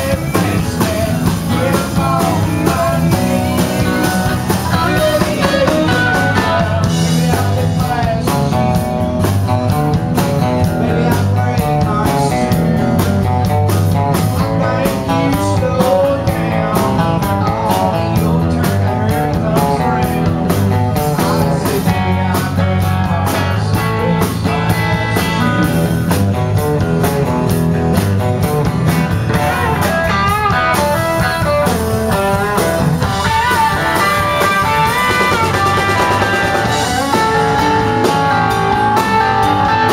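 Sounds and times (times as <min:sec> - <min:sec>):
electric guitar lead line: 0:00.0 - 0:39.9
live country band playing: 0:00.0 - 0:39.9.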